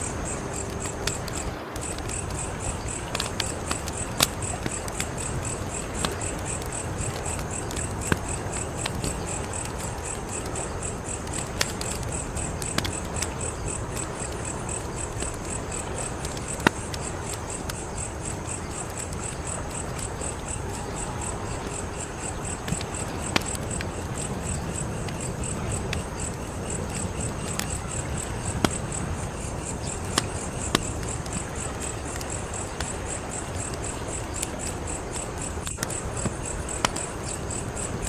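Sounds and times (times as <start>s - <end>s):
crickets chirping: 0.0s - 38.0s
wood fire crackling and popping: 0.0s - 38.0s.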